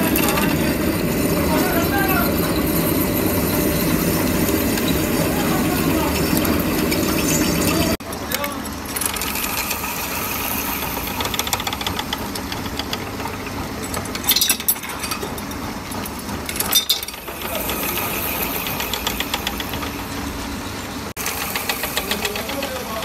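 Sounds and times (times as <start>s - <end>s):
thread cutting machine running: 0.0s - 23.0s.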